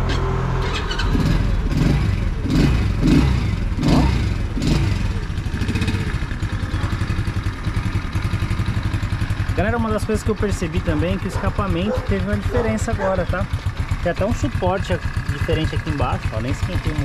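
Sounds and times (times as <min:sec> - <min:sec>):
scooter engine revving and idling: 0:00.0 - 0:17.0.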